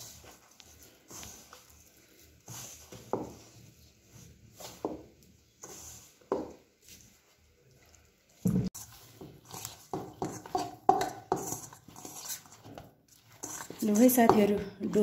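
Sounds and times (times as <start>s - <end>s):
hand kneading dough squishing: 0.0s - 15.0s.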